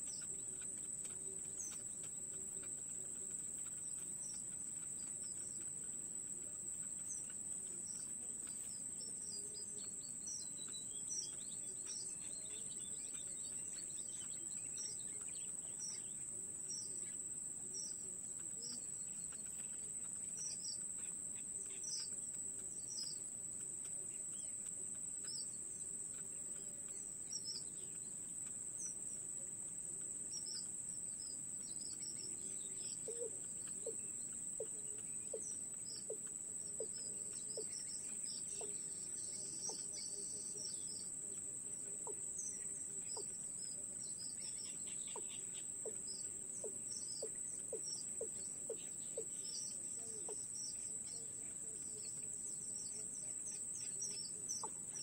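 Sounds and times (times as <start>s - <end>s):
insects droning: 0.0s - 55.0s
nestling birds cheeping: 0.0s - 55.0s.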